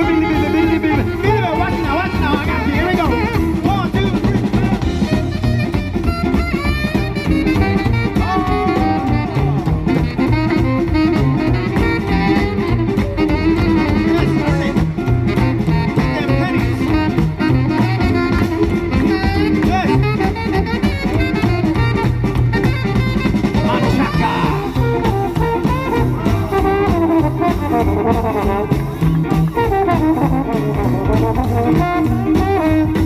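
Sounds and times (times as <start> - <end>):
swing band playing: 0.0 - 33.0.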